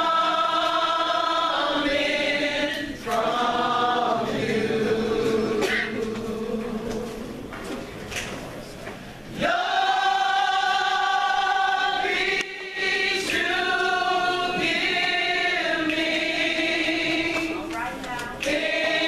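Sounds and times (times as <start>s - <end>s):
gospel group singing: 0.0s - 7.8s, 9.3s - 17.7s, 18.4s - 19.0s.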